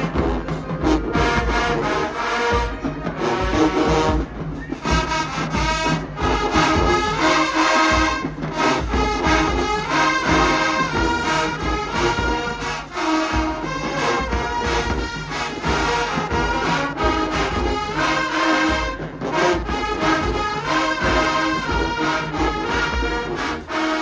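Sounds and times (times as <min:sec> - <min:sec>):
drums keeping a steady beat: 0:00.0 - 0:24.0
loud brass chords: 0:00.0 - 0:24.0.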